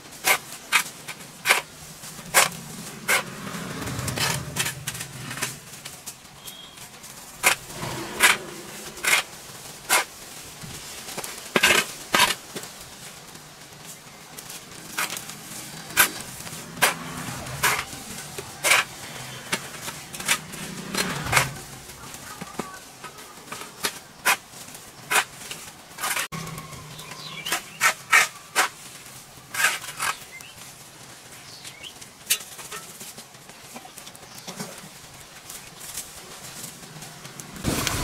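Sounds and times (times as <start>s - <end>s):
branches cracking: 0.0s - 30.8s
leaves and twigs rustling: 0.0s - 38.0s.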